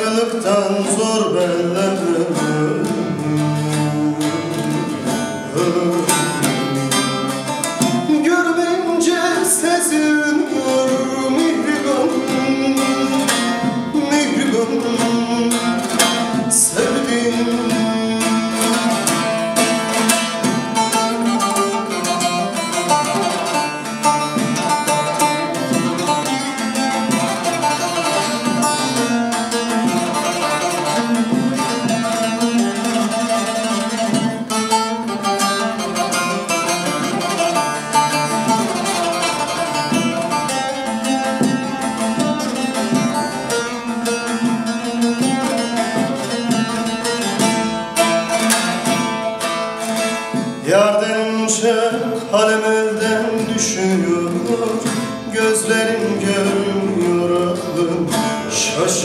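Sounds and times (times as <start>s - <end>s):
long-necked lute plucked notes: 0.0s - 59.0s.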